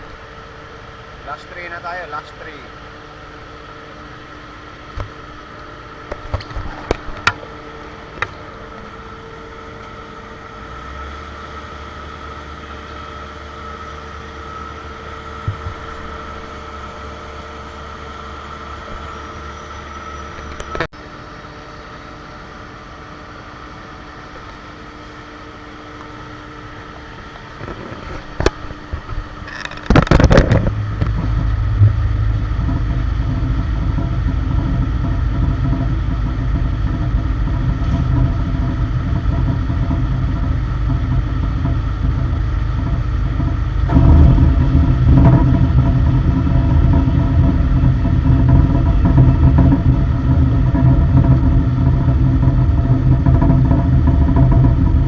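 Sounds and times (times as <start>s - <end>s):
diesel engine rumbling: 0.0s - 55.0s
loader machinery whining hum: 0.0s - 55.0s.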